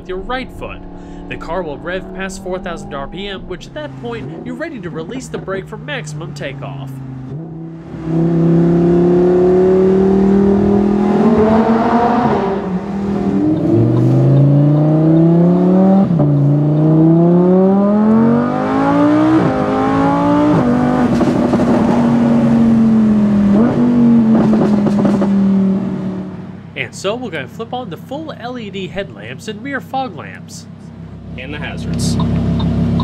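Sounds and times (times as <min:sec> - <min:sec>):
car engine accelerating with upshifts: 0:00.0 - 0:26.8, 0:28.8 - 0:33.0.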